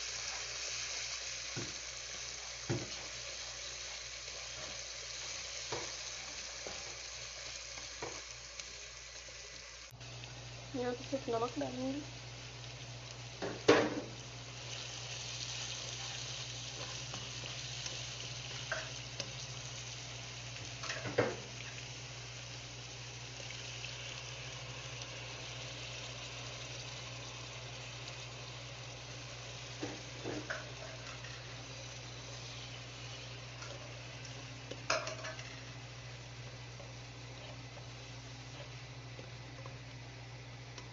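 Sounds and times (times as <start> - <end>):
rice sizzling in oil: 0.0 - 40.9.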